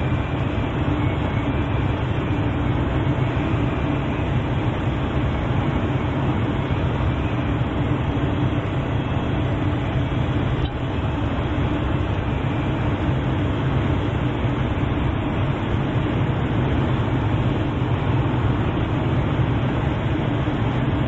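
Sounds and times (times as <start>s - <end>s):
airplane engine and propeller droning: 0.0s - 21.0s.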